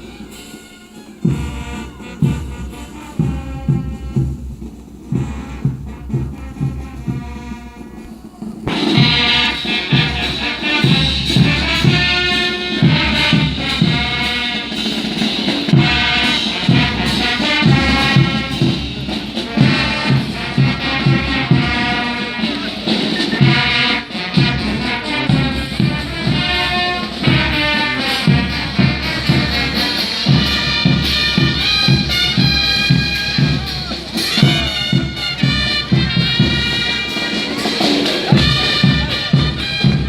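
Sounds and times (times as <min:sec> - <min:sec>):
brass band playing carnival music: 0:00.0 - 0:40.0.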